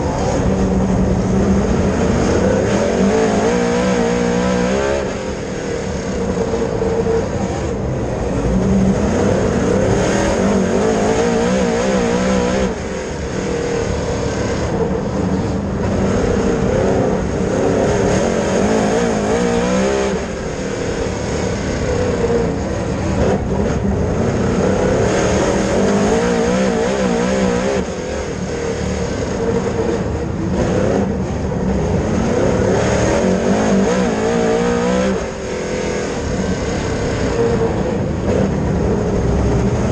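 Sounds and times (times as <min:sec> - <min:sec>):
race car engine at speed: 0:00.0 - 0:39.9.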